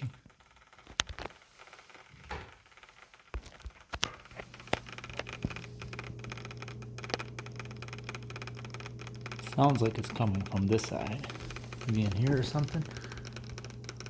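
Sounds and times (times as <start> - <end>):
scattered clicks: 0.0 - 2.1, 2.7 - 14.0
laptop crackling and scratching: 0.0 - 14.0
steady low hum: 0.0 - 14.0.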